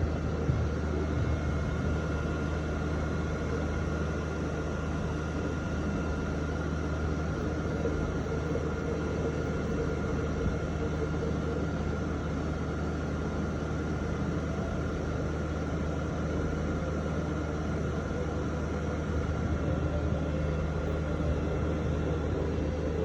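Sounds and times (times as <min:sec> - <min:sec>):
printer fans and motors humming: 0:00.0 - 0:23.0.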